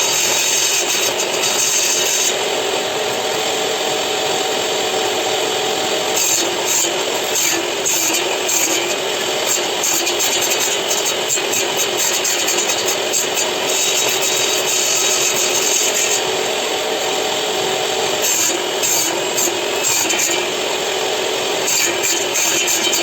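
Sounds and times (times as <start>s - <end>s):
table saw cutting wood: 0.0s - 23.0s.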